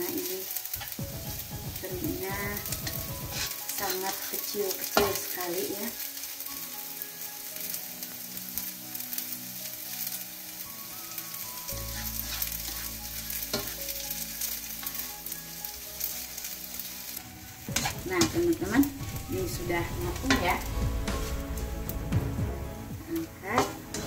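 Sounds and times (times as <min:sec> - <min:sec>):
food sizzling in hot oil: 0:00.0 - 0:24.0
spatula scraping a wok: 0:00.6 - 0:10.2, 0:11.7 - 0:24.0.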